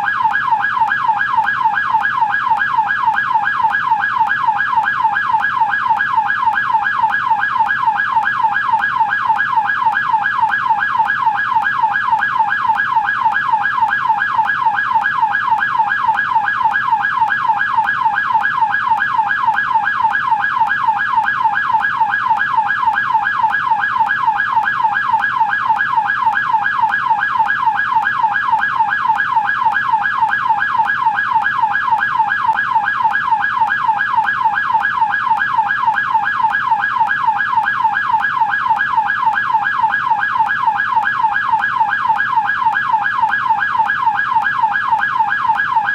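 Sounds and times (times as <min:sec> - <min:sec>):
police siren yelping: 0:00.0 - 0:45.9.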